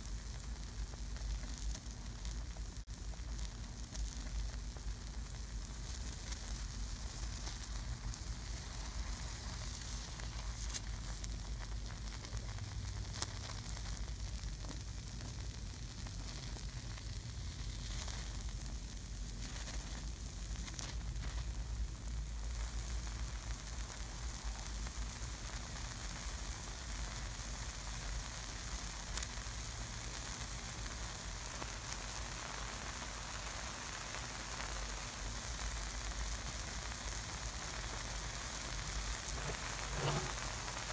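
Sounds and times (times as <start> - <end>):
acid fizzing and sizzling: 0.0 - 40.9
faint crackles: 0.0 - 40.9.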